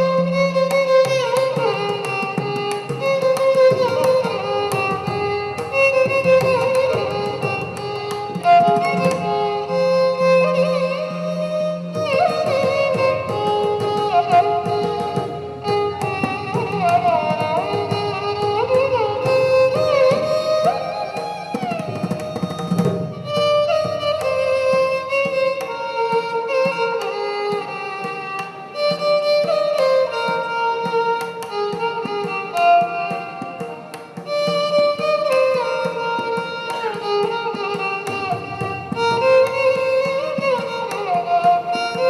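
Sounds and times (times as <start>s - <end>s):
hand drum: 0.0s - 42.0s
violin melody with sliding notes: 0.0s - 42.0s.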